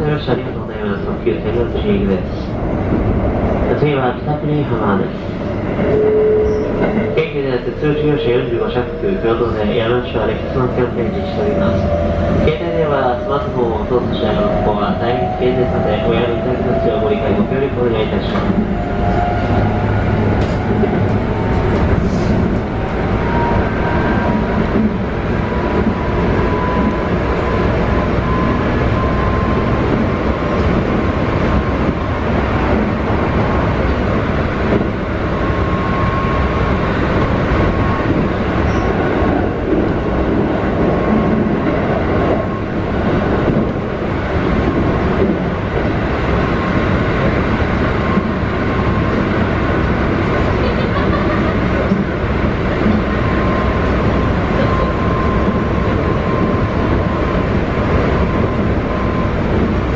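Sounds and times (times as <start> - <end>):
train wheel and rail rumble: 0.0 - 59.9.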